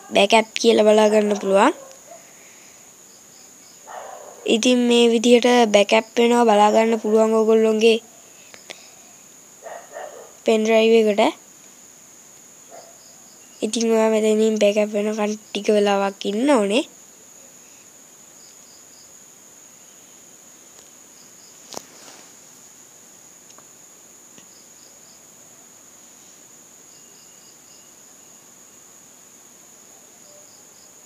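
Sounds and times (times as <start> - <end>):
insect chirping: 0.0 - 31.0.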